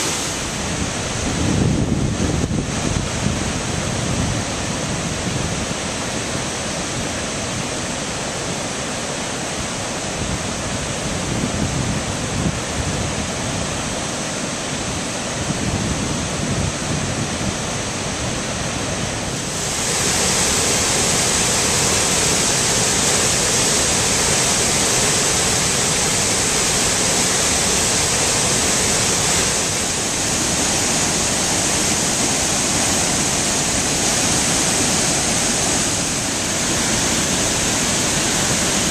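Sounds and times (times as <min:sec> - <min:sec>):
waterfall rushing: 0:00.0 - 0:38.9
wind rumble on microphone: 0:00.2 - 0:08.3, 0:09.6 - 0:38.9.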